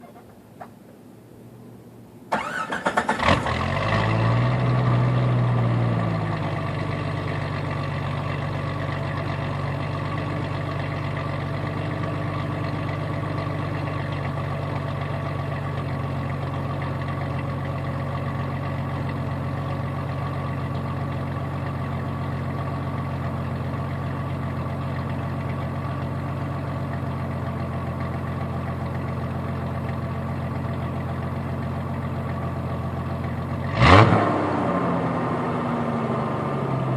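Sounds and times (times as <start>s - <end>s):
car engine starting and idling: 0.0s - 36.9s.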